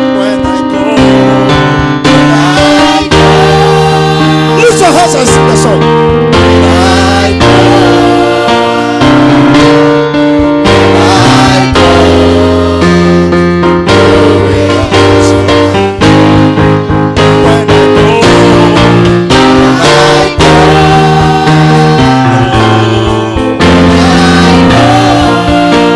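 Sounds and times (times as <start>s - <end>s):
keyboard playing worship chords: 0.0s - 25.9s.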